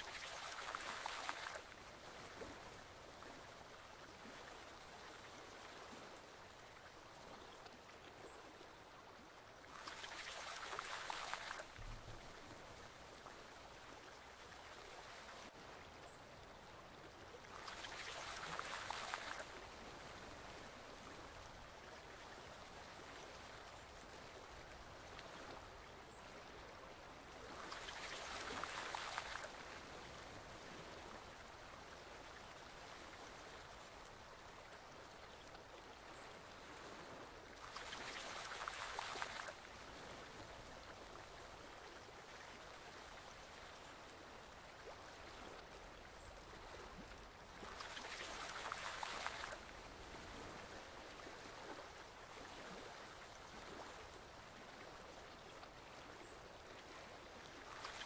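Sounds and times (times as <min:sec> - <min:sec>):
forest stream flowing: 0:00.0 - 0:58.0.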